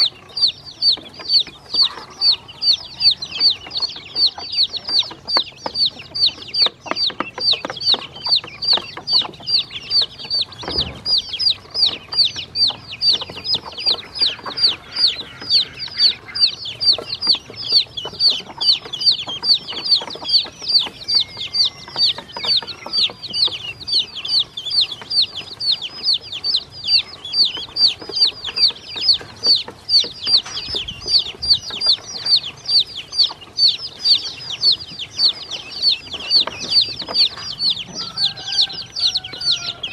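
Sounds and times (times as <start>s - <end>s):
chicks and ducklings peeping: 0.0s - 39.9s.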